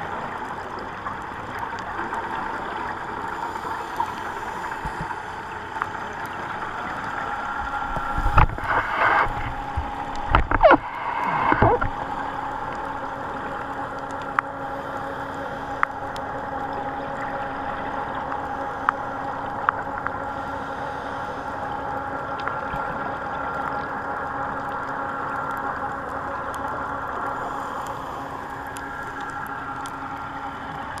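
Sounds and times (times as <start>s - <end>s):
boat engine droning underwater: 0.0s - 31.0s.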